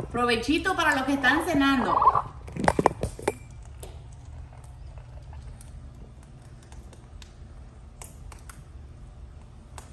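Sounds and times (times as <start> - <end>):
low steady hum: 0.0 - 9.9.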